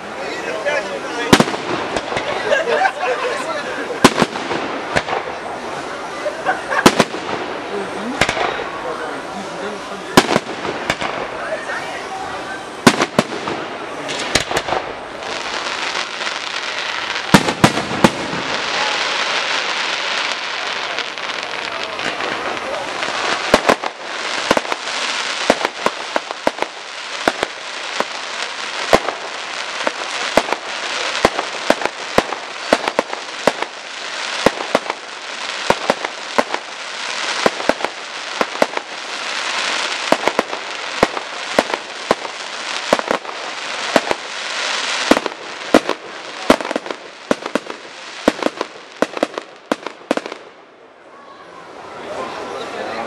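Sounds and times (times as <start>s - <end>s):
fireworks bangs: 0.0s - 50.9s
fireworks crackle: 0.0s - 50.9s.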